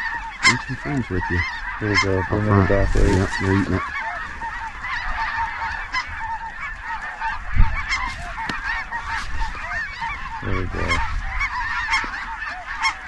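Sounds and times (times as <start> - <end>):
flock of geese calling: 0.0 - 13.0.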